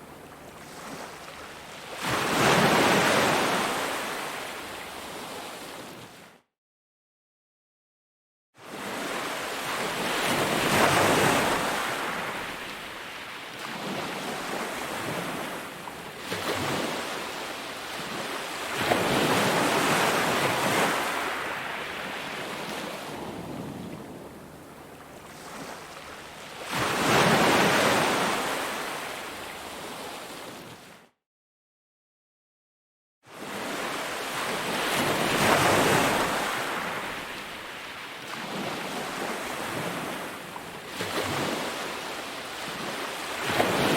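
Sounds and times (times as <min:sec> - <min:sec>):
ocean waves breaking on beach: 0:00.0 - 0:06.3, 0:08.6 - 0:31.0, 0:33.3 - 0:43.9.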